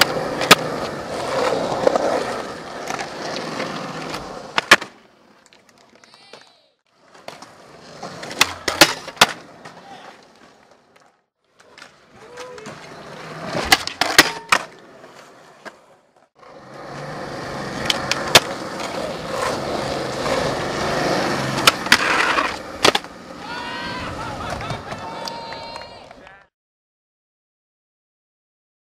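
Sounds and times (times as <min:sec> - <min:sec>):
skateboard clacks: 0:00.0 - 0:14.8, 0:16.7 - 0:26.3
skateboard wheels rolling on concrete: 0:00.0 - 0:26.5.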